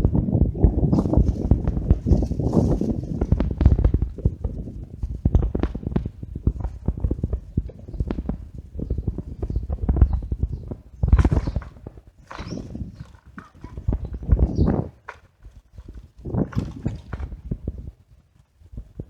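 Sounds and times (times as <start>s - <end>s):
bicycle rattling over paving: 0.0s - 19.0s.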